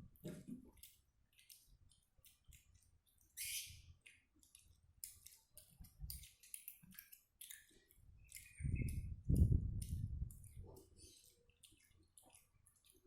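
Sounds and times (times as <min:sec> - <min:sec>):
child chewing with wet mouth smacks: 0:00.0 - 0:13.0.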